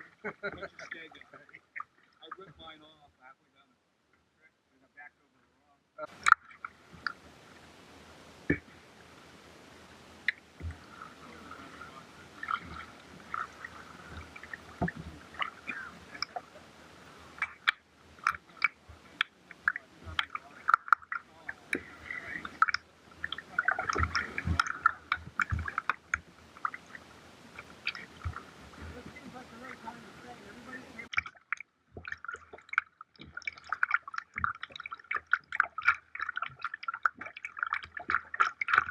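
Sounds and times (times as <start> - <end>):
water splashing around kayak: 0.0 - 3.1, 6.0 - 38.9.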